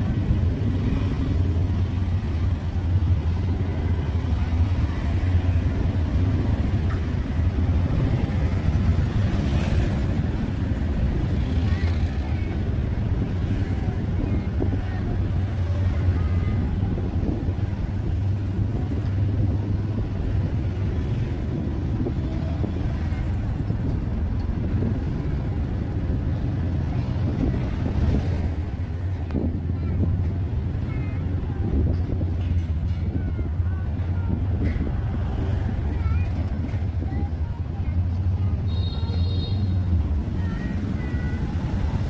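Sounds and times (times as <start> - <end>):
road noise: 0.0 - 42.0.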